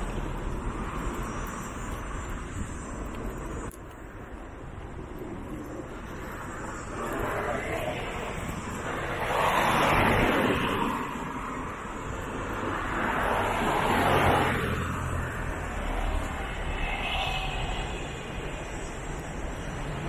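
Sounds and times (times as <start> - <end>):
cars passing: 0.0 - 20.0
low traffic rumble: 0.0 - 20.0.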